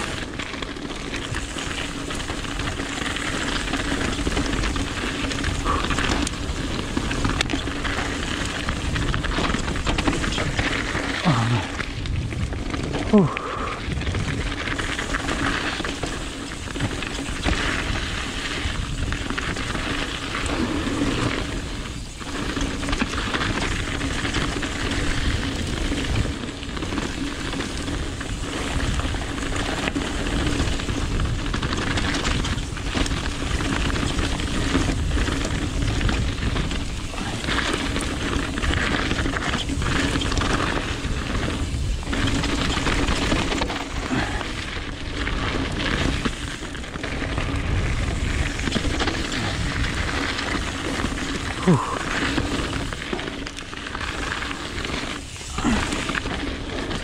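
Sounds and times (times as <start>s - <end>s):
bike knocking and rattling: 0.0s - 57.0s
tyres rolling over loose stones: 0.0s - 57.0s.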